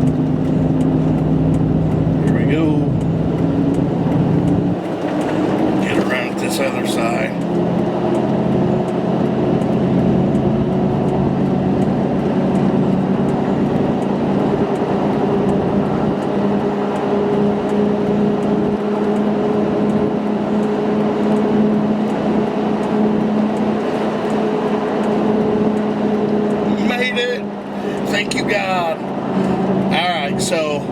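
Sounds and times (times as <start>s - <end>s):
truck engine running rough: 0.0s - 30.9s.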